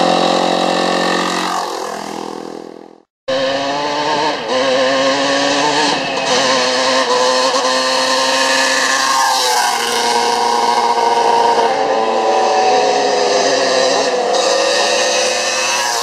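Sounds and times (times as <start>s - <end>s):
dirt bike engines approaching: 0.0s - 16.0s
dirt bike passing by: 0.0s - 16.0s.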